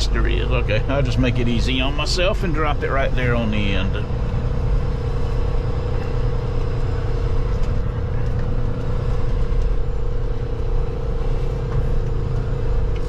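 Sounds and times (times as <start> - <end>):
constant hum: 0.0 - 13.0
diesel engine rumbling: 0.0 - 13.0.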